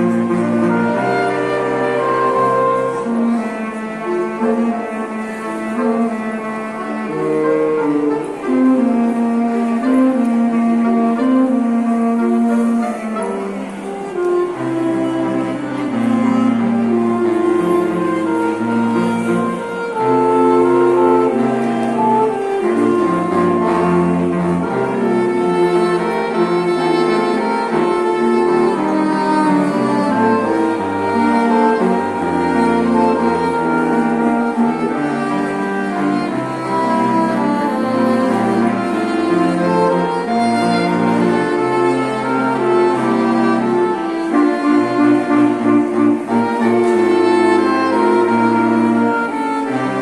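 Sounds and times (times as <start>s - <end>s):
chamber music quintet: 0.0s - 50.0s.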